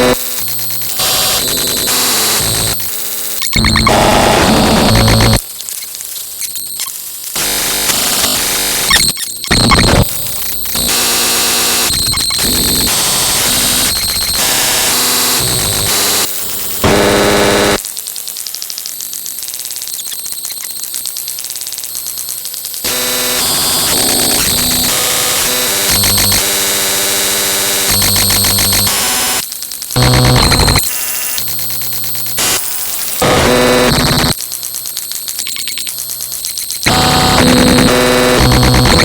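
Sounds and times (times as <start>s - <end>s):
harsh electronic static and buzzing: 0.0s - 39.0s.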